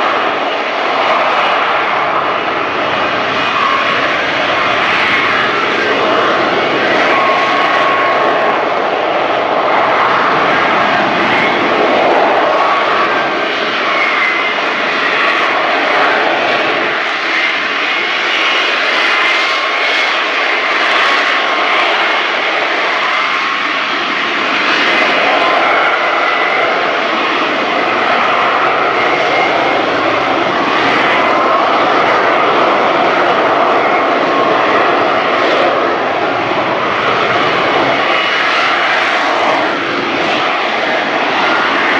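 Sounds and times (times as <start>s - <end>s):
jet engine roaring: 0.0s - 41.9s.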